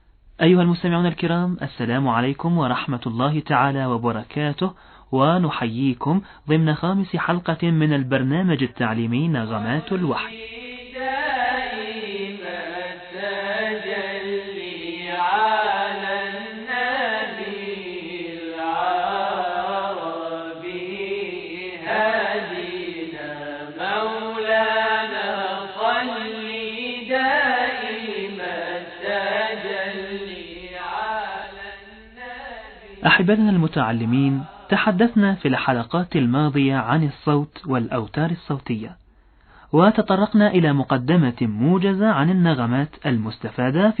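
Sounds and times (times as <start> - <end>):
person chanting melismatically: 0.4 - 38.9.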